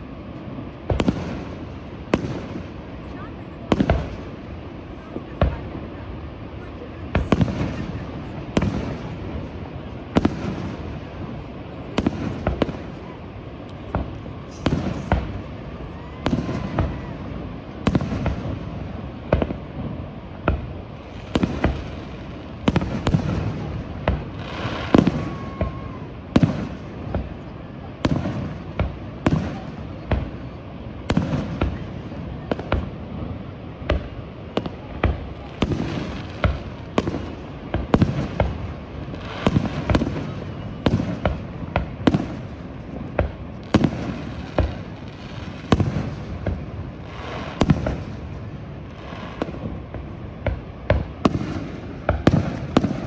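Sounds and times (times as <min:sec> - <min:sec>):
background noise: 0:00.0 - 0:53.0
fireworks bursting with bangs: 0:00.0 - 0:53.0.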